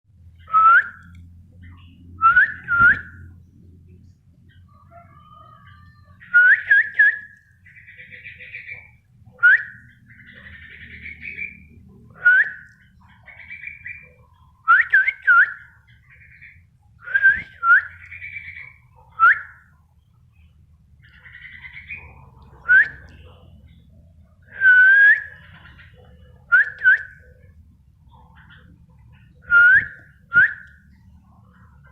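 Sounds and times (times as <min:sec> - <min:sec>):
bulbul whistling song: 0:00.3 - 0:03.5, 0:04.5 - 0:23.4, 0:24.4 - 0:27.6, 0:28.4 - 0:31.2
soft warbling chatter: 0:00.5 - 0:31.9.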